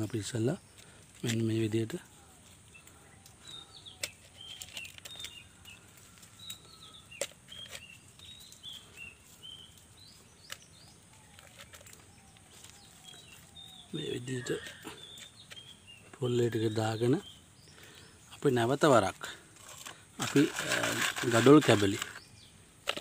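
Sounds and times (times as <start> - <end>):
birds chirping: 0.0 - 23.0
coconut husk clicks and rustles: 0.0 - 23.0.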